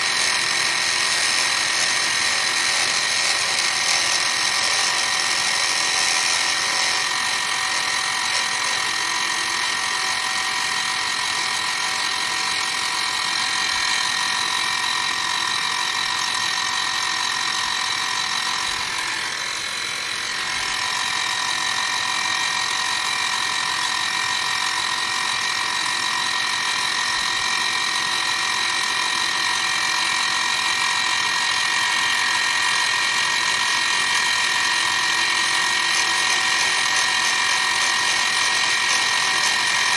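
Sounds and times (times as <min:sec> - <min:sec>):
milling machine cutting whine: 0:00.0 - 0:39.9.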